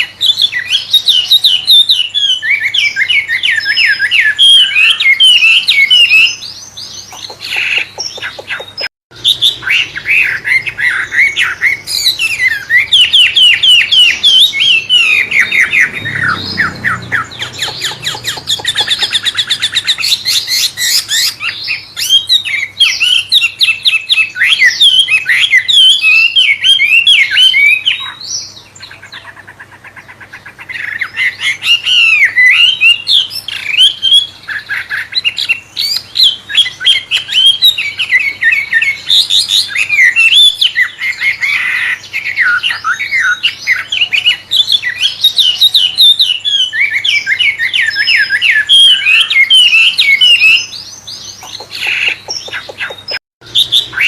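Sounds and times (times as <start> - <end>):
songbird whistling and chirping: 0.0 - 54.0.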